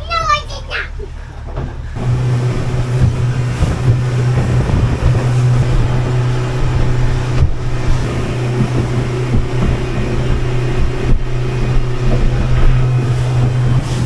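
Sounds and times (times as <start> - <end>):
boat engine humming: 0.0 - 14.0
wind and water rushing: 0.0 - 14.0.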